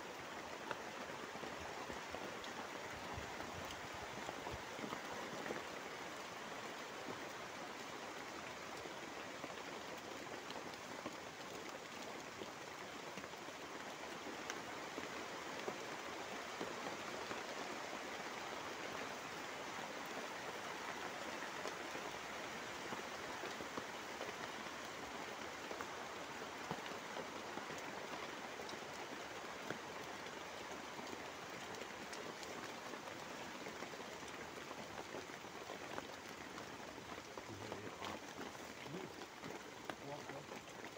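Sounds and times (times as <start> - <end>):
rain falling on a tarp: 0.0 - 40.9.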